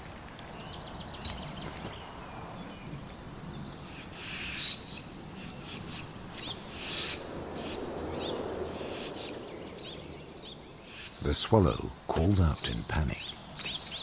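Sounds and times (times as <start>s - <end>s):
swallows twittering: 0.3s - 14.0s.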